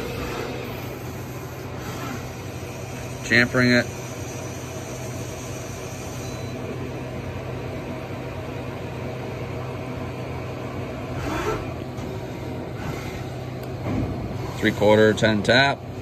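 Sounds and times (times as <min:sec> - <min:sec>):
lathe machine hum: 0:00.0 - 0:16.0.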